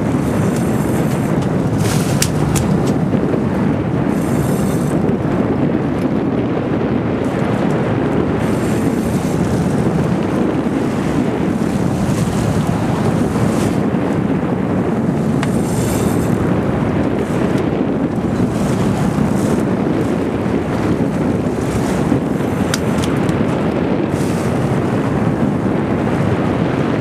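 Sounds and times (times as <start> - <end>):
boat engine running: 0.0 - 27.0
wind buffeting microphone: 0.0 - 27.0.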